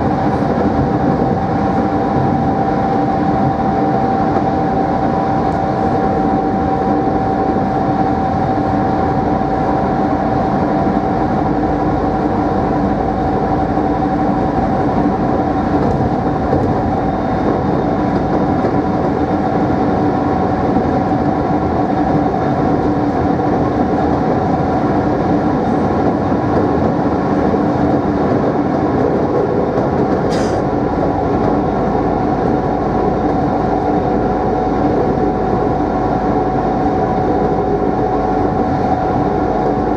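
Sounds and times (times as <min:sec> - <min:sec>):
train traction motor whine: 0:00.0 - 0:39.9
wheel and rail noise: 0:00.0 - 0:39.9.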